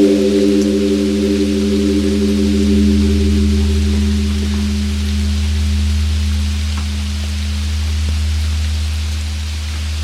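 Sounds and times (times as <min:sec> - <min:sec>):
deep temple bell hum: 0:00.0 - 0:09.7
rain pattering: 0:00.0 - 0:10.0.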